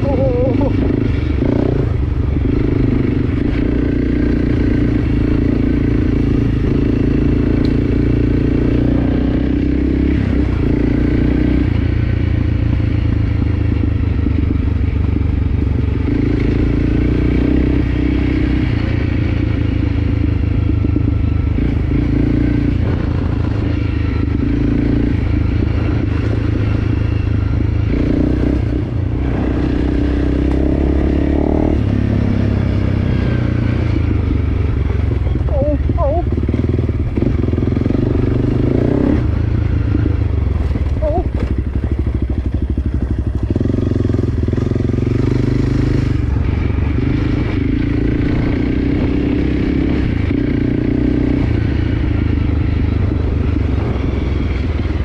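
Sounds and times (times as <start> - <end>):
dirt bike engine revving: 0.0 - 13.6, 15.8 - 55.0.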